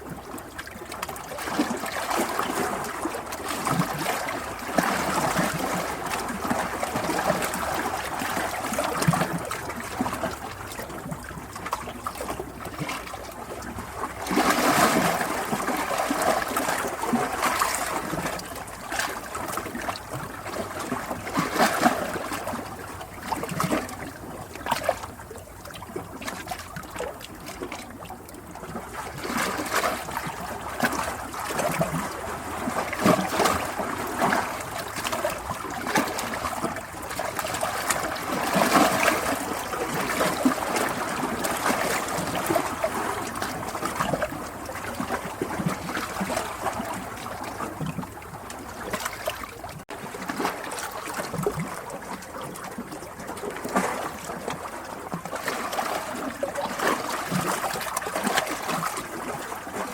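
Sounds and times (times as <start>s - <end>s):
running water babbling: 0.0s - 59.9s.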